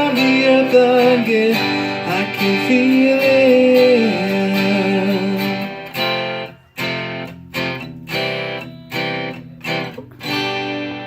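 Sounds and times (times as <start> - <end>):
guitar chord strums: 0.0 - 11.0.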